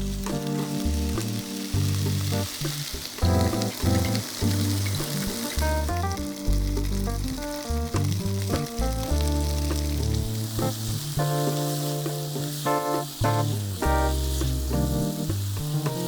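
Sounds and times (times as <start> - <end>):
background music with bass line: 0.0 - 16.0
food sizzling in oil: 0.0 - 16.0.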